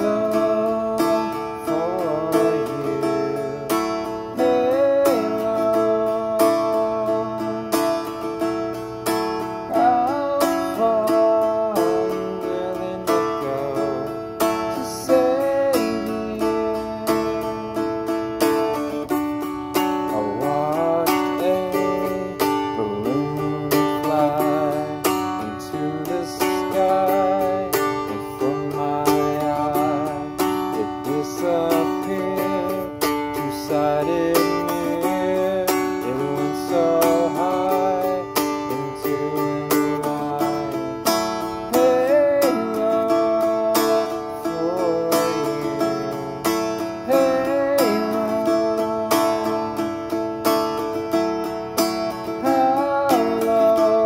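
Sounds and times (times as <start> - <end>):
man singing with vibrato: 0.0 - 54.0
strummed dulcimer: 0.0 - 54.0.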